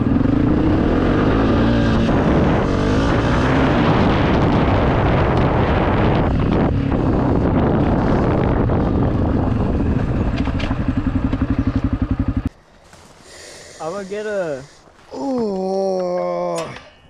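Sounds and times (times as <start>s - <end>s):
dirt bike engine: 0.0s - 14.7s.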